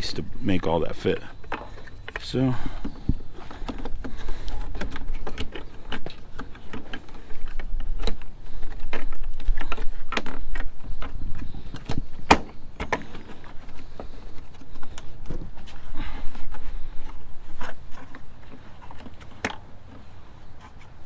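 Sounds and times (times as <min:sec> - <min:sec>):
plastic parts clicking and tapping: 0:01.4 - 0:15.4, 0:16.4 - 0:20.1.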